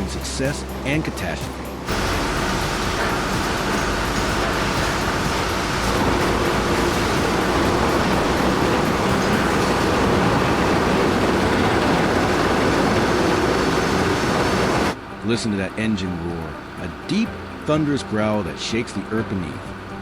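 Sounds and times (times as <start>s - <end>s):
heavy machinery running: 0.0s - 20.0s.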